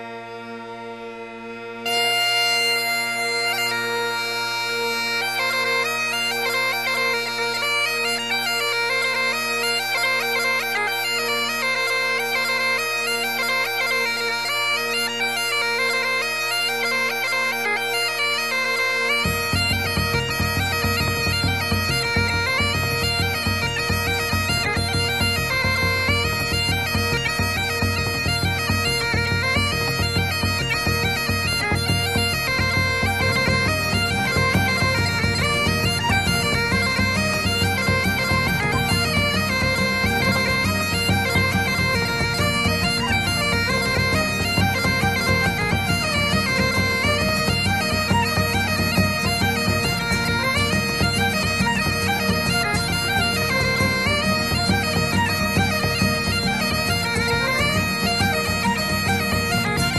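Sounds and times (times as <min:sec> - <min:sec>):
bagpipe music: 0:00.0 - 0:59.9.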